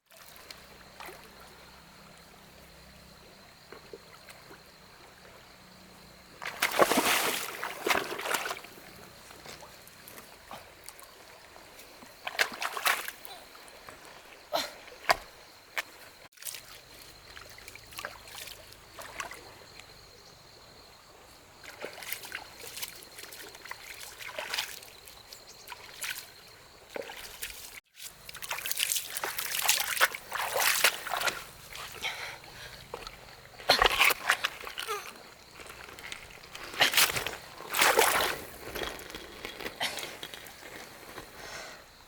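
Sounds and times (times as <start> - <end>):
water sloshing and splashing: 0.0 - 20.1, 20.8 - 41.5.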